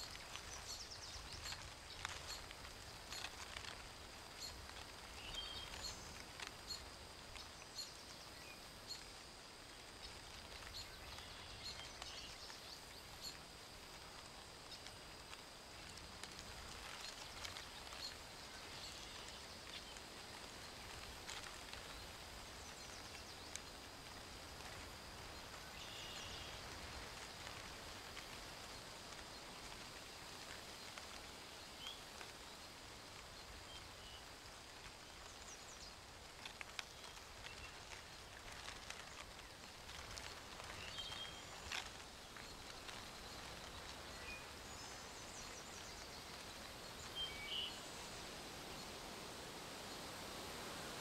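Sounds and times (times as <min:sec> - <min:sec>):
soft hiss: 0:00.0 - 0:51.0.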